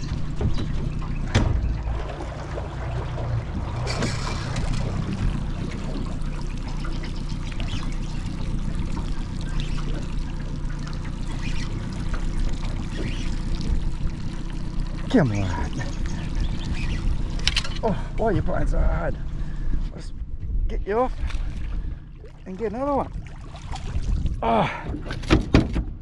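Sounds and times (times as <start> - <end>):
water splashing and trickling: 0.0 - 19.8, 20.9 - 25.8
steady low hum: 0.0 - 24.5.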